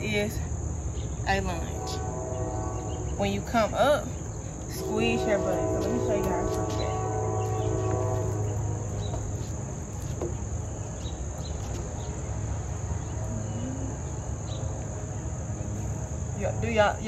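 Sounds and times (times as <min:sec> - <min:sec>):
high-pitched insect chorus: 0:00.0 - 0:17.0
low steady hum: 0:00.0 - 0:17.0.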